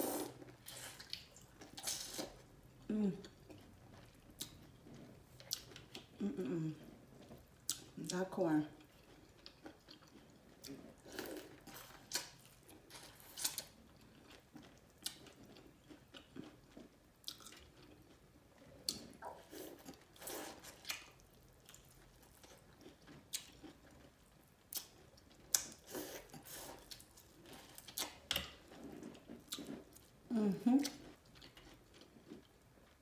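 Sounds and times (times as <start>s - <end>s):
chewing corn on the cob: 0.2s - 33.0s.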